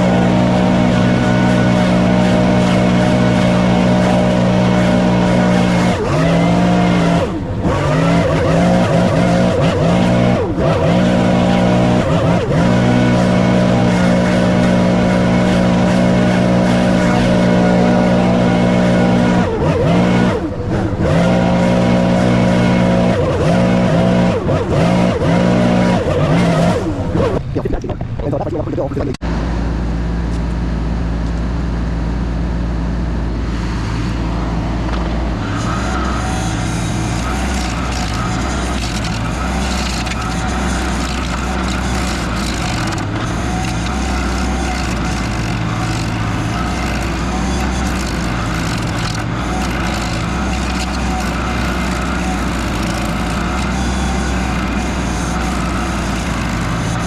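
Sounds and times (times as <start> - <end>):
stump grinder grinding: 0.0 - 29.2, 33.4 - 57.0
skid steer engine revving: 0.0 - 57.0.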